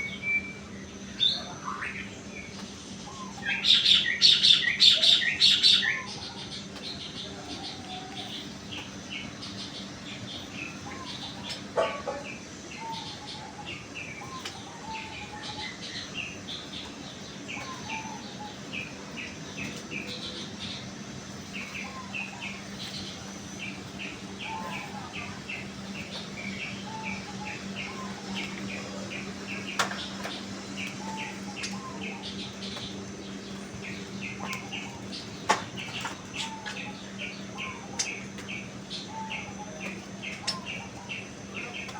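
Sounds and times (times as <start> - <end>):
lower bird calls: 0.0 - 41.9
small birds chirping: 0.0 - 41.9
steady low hum: 0.0 - 41.9.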